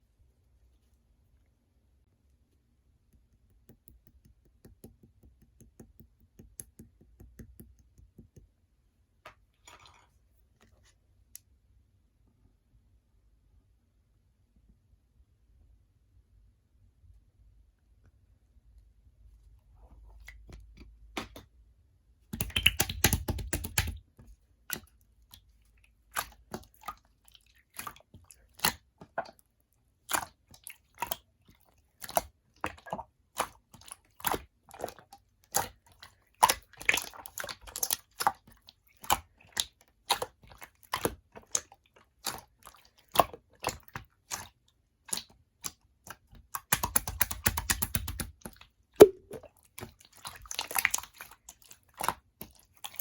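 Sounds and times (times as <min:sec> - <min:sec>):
slime squishing with clicks: 0:02.1 - 0:11.8, 0:19.8 - 0:53.0.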